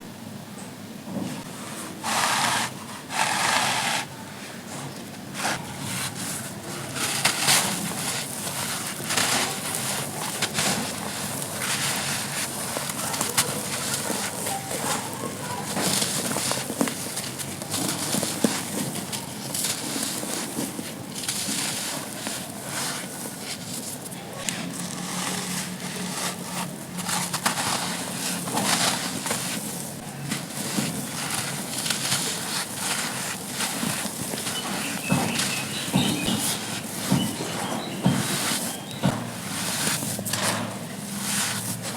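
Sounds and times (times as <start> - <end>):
gritty crunching and crackling: 5.4 - 41.9.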